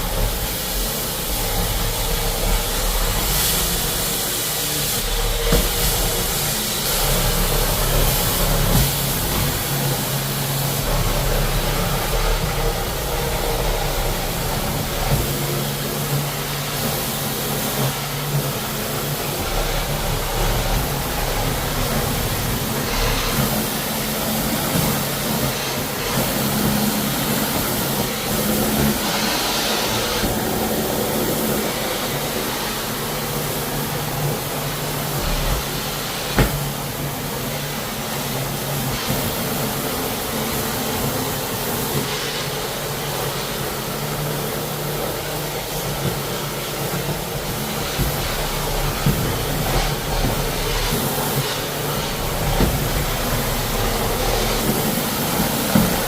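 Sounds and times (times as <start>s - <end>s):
motor running with hiss: 0.0s - 56.0s.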